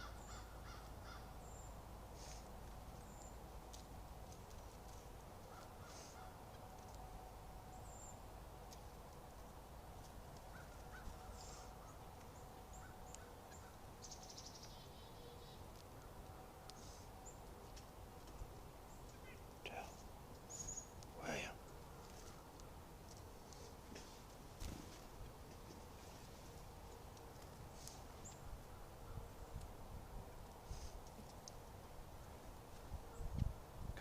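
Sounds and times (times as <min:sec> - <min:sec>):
birds chirping: 0:00.0 - 0:33.5
faint steady hum: 0:00.0 - 0:34.0.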